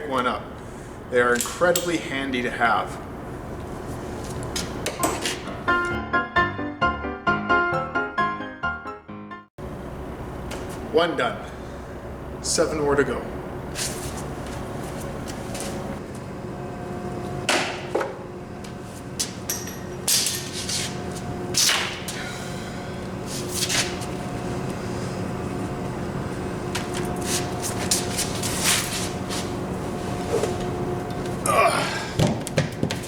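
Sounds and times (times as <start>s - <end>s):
steady low hum: 0.0s - 6.0s, 9.6s - 33.0s.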